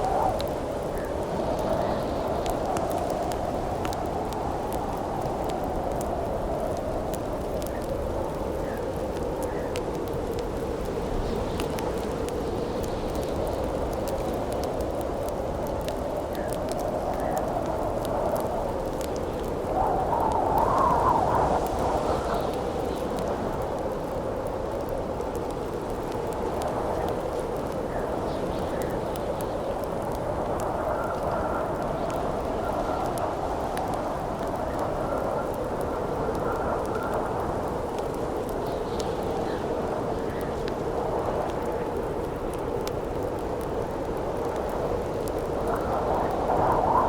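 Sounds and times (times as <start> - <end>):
campfire crackling and popping: 0.0 - 47.0
wind howling: 0.0 - 47.0.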